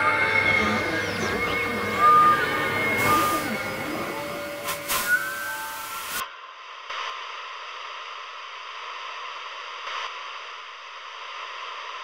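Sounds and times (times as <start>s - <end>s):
television static hiss: 0.0s - 12.0s.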